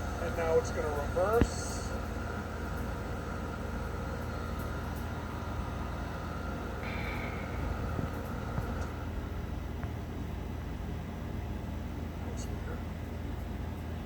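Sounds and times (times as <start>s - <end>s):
heat pump humming: 0.0s - 14.0s.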